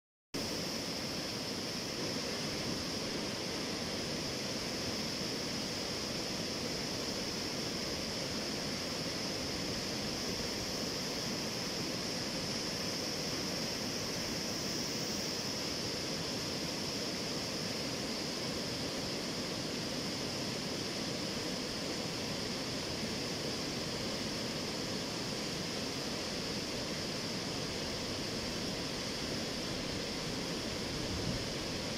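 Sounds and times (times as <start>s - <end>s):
water rushing over rapids: 0.4s - 31.9s.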